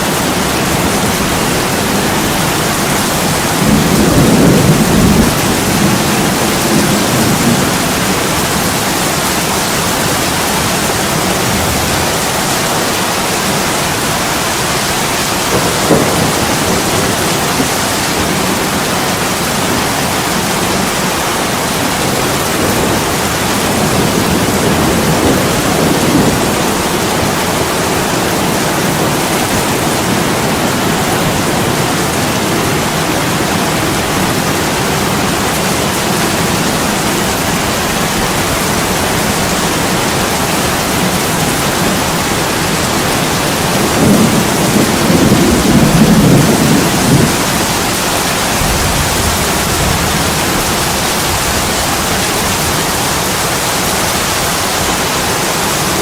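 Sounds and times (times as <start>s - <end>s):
heavy rain on window glass: 0.0s - 56.0s.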